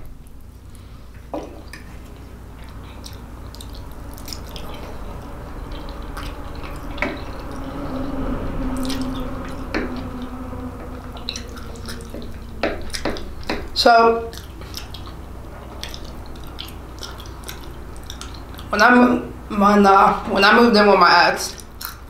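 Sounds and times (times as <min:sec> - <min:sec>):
wet chewing and lip-smacking: 0:00.2 - 0:19.5, 0:21.4 - 0:22.0.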